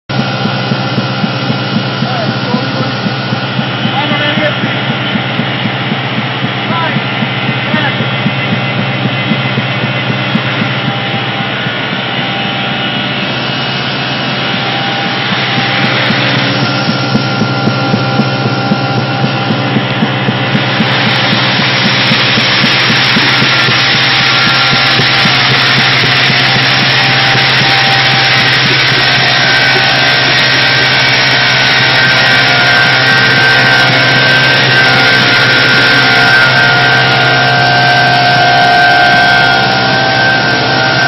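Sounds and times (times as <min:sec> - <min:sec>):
motor hum: 0:00.0 - 0:41.0
rapid ticking: 0:00.1 - 0:41.0.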